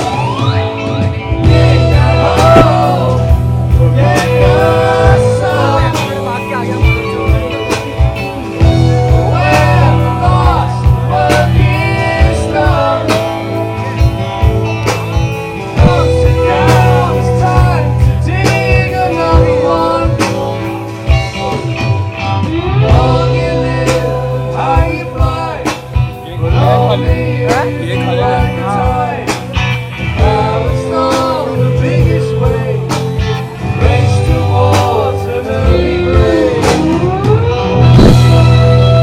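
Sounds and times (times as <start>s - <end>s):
rock song with singing: 0.0s - 39.0s.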